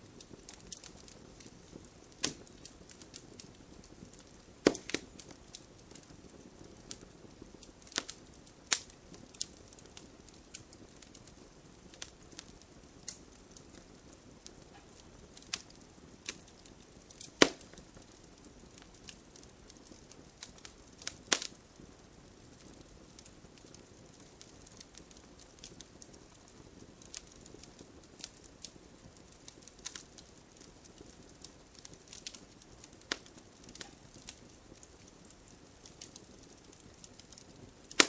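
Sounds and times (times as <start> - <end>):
bonfire crackling and popping: 0.0 - 38.0
gentle rain hiss: 0.0 - 38.0.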